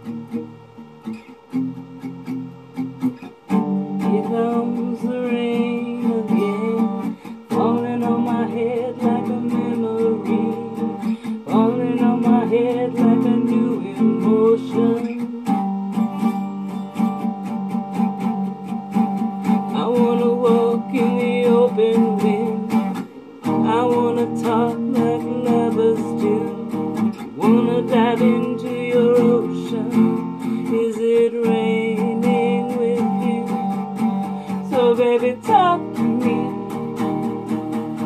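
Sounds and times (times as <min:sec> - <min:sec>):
acoustic guitar strumming: 0:00.0 - 0:38.0
woman singing: 0:03.5 - 0:16.7, 0:19.5 - 0:38.0.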